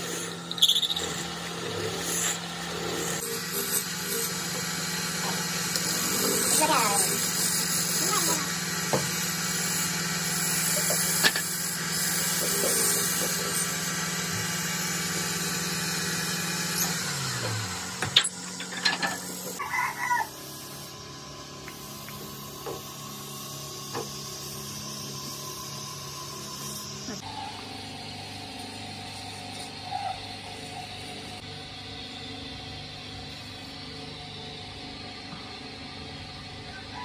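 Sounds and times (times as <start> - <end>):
electric motor hum winding down: 0.0 - 37.0.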